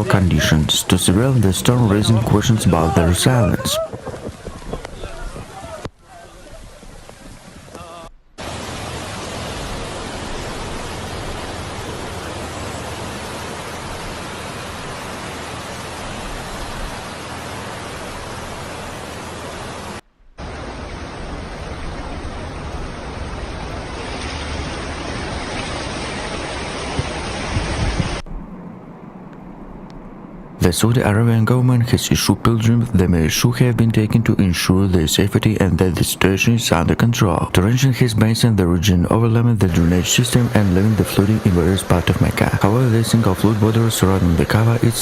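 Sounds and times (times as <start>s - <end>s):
heavy rain and wind: 0.0s - 45.0s.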